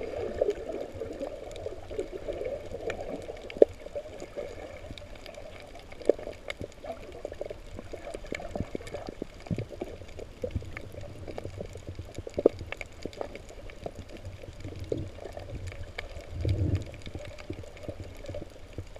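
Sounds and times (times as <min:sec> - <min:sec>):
muffled underwater gurgling: 0:00.0 - 0:18.9
sharp clicks and pops: 0:01.3 - 0:04.3, 0:04.9 - 0:18.9.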